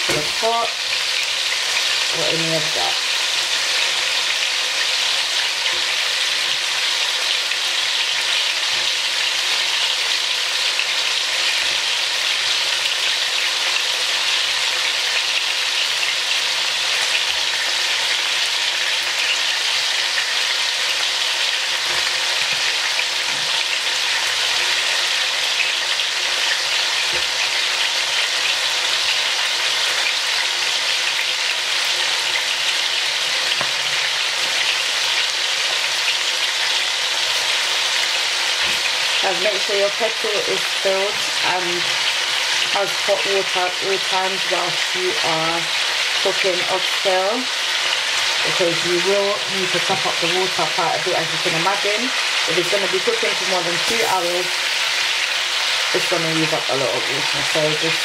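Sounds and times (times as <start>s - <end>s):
meat sizzling in a pot: 0.0s - 58.0s.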